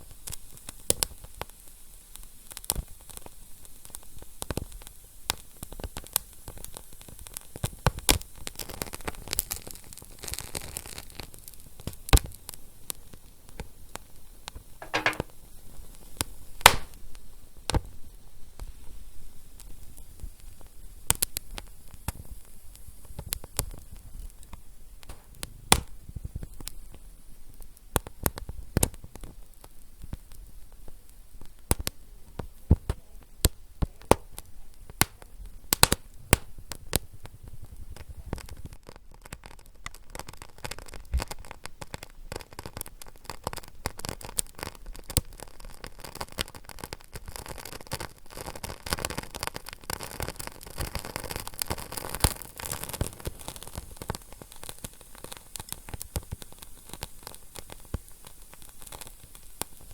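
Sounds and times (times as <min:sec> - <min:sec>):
fire crackling and popping: 0:00.0 - 0:15.3, 0:16.1 - 0:59.9.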